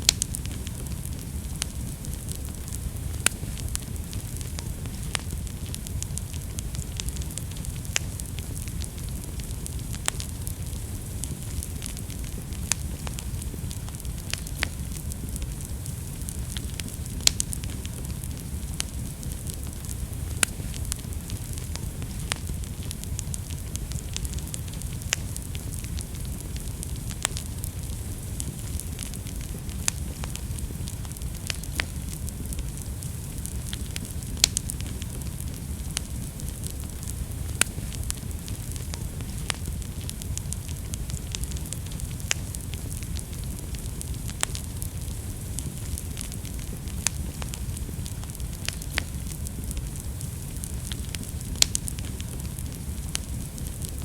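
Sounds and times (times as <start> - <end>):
burning wood crackling and popping: 0.0 - 54.0
fire flames rumbling: 0.0 - 54.0.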